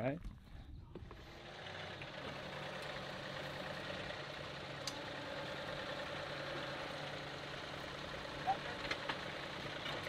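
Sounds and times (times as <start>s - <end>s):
tractor engine idling: 0.4s - 10.0s.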